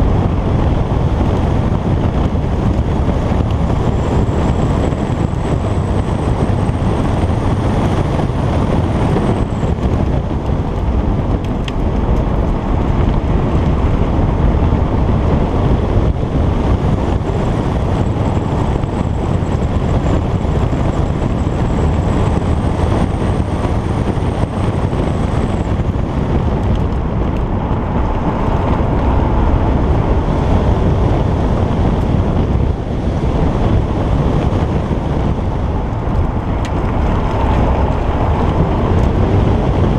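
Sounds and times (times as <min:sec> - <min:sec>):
car engine driving: 0:00.0 - 0:39.9
wind noise on microphone: 0:00.0 - 0:39.9.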